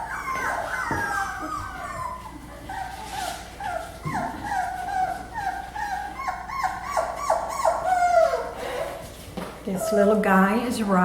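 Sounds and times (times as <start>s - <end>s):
puppies whimpering: 0.0s - 9.0s, 9.7s - 10.6s.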